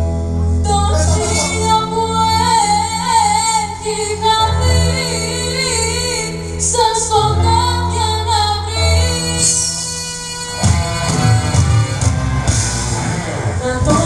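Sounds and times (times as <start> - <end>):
steady bass line: 0.0 - 14.0
sustained chords: 0.0 - 14.0
woman singing with vibrato: 0.6 - 12.0, 13.6 - 14.0.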